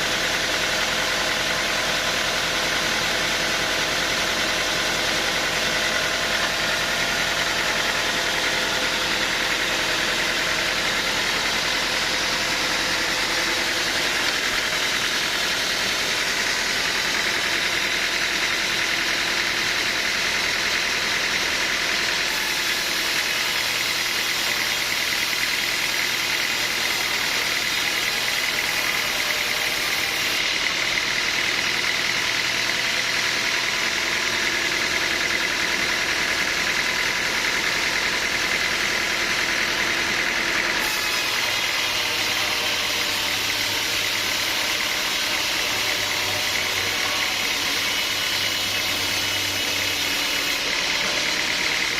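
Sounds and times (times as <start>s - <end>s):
sawmill machinery whining: 0.0s - 51.9s.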